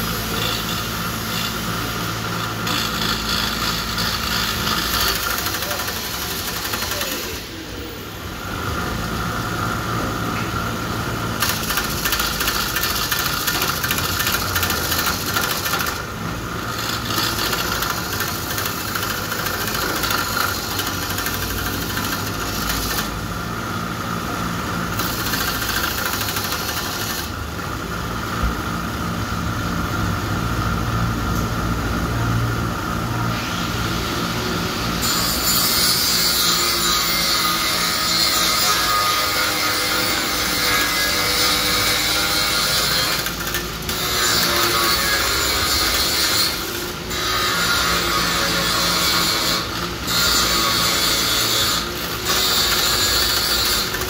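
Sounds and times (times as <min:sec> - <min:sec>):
grinder motor humming: 0:00.0 - 0:07.8, 0:08.4 - 0:28.8, 0:34.8 - 0:54.0.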